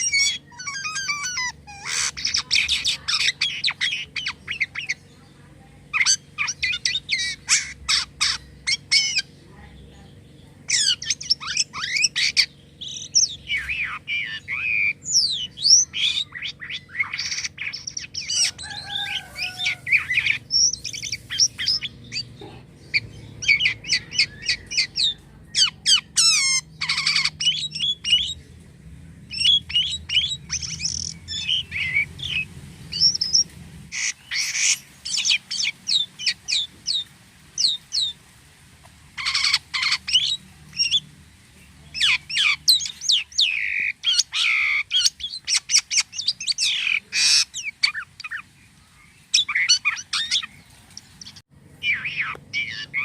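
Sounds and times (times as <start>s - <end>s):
starling singing: 0.0s - 38.2s, 38.8s - 53.0s.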